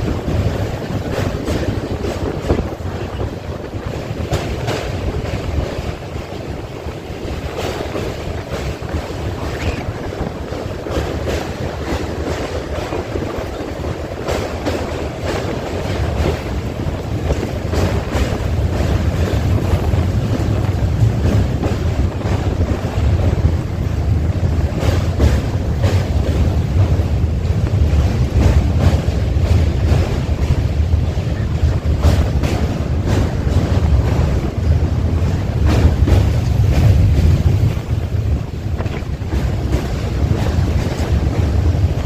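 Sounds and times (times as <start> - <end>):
train wheels rumbling on track: 0.0 - 42.0
wind buffeting microphone: 0.0 - 42.0.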